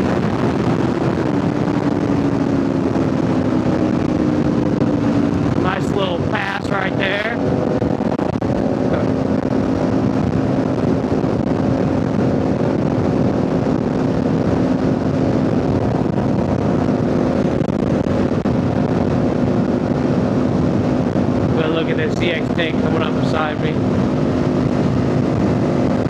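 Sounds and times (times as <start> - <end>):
wind rush on microphone: 0.0 - 26.0.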